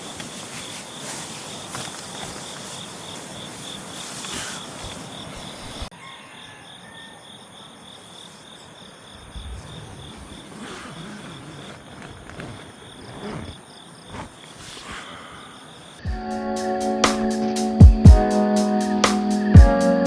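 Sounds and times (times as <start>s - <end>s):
insects trilling: 0.0s - 16.1s
crickets chirping: 0.0s - 20.0s.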